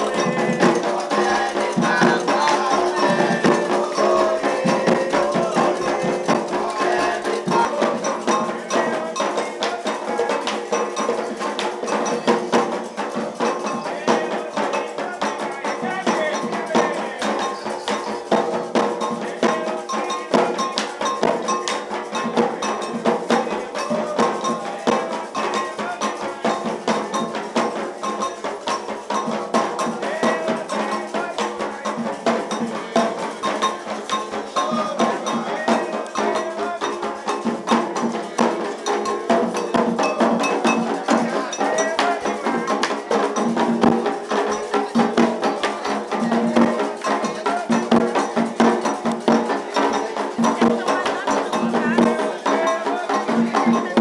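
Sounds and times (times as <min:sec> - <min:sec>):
agogo bell struck: 0:00.0 - 0:54.0
hand drums: 0:00.0 - 0:54.0
voices chanting: 0:00.0 - 0:54.0.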